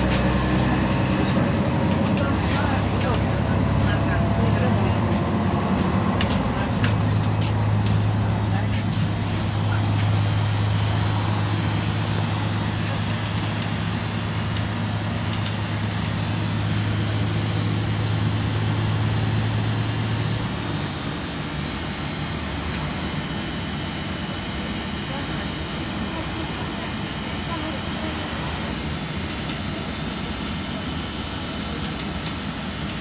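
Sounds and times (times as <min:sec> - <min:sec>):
bus engine humming: 0:00.0 - 0:33.0
road noise: 0:00.0 - 0:33.0.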